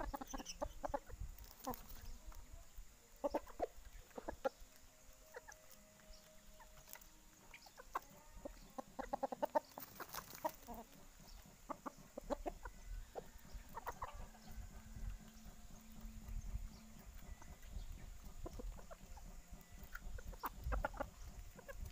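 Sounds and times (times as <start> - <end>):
hens clucking: 0.0 - 21.9.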